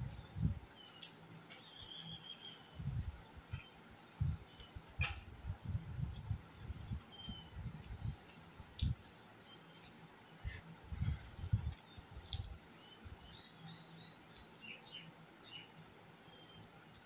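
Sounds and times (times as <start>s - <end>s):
faint bird chirps: 0.0s - 4.9s, 6.5s - 8.6s, 9.3s - 17.0s.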